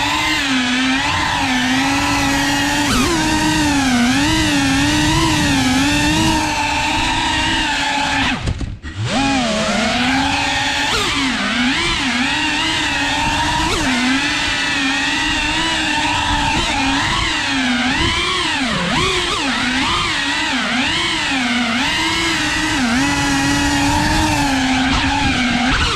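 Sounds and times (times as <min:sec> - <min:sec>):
drone motors whining: 0:00.0 - 0:25.9.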